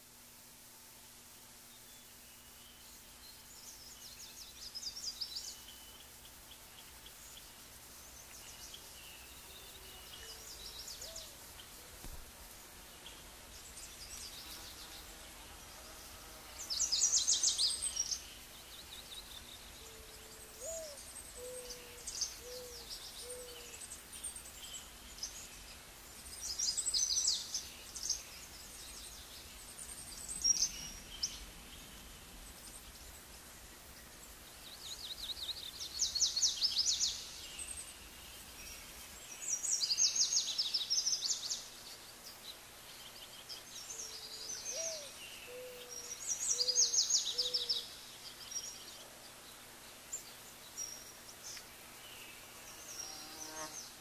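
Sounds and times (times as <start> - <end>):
small birds chirping and trilling: 1.6 - 54.0.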